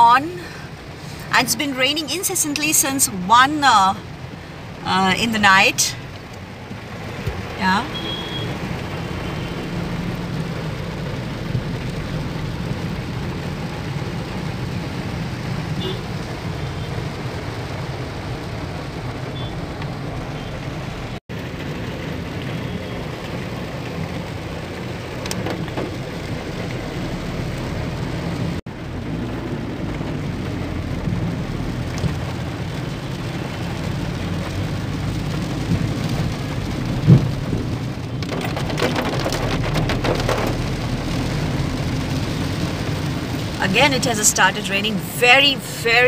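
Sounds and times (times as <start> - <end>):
heavy rain on vehicle roof: 0.0 - 46.0
road and engine noise: 0.0 - 46.0.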